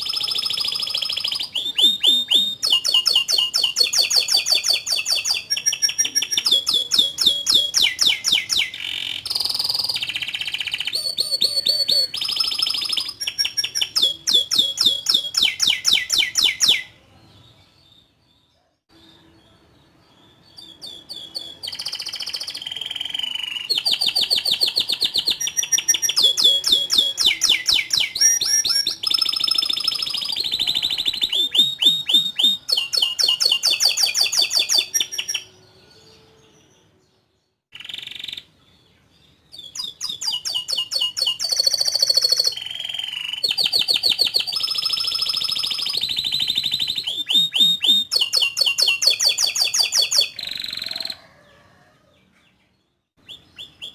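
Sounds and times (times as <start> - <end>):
canary singing trills: 0.0 - 51.6, 53.2 - 53.9.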